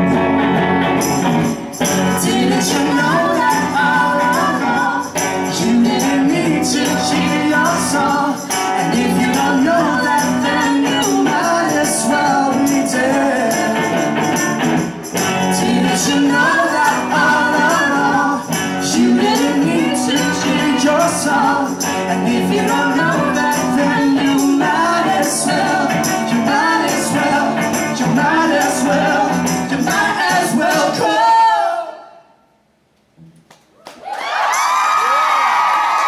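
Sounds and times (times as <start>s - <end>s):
electric guitar strummed: 0.0s - 30.2s
tambourine shaken: 0.8s - 31.1s
voices singing: 1.8s - 32.2s.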